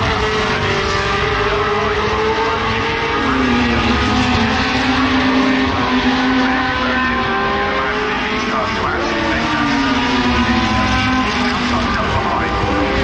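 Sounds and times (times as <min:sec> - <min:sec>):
racing cars passing at speed: 0:00.0 - 0:13.0.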